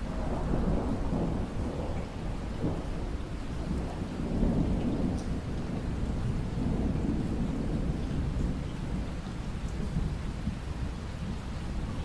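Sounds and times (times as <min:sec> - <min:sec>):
distant thunder rumbling: 0:00.0 - 0:12.0
steady rain: 0:00.0 - 0:12.0.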